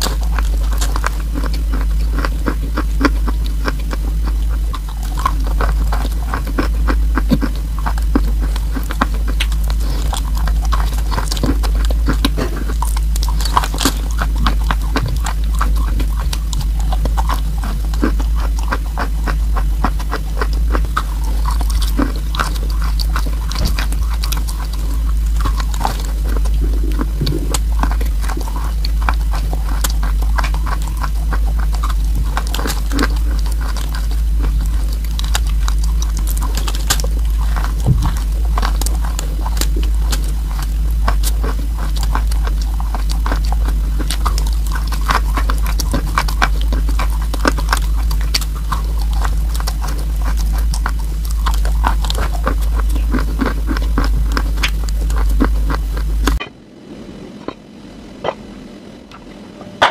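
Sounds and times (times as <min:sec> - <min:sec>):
chalk crunching and chewing: 0:00.0 - 0:56.4
steady low hum: 0:00.0 - 0:59.9.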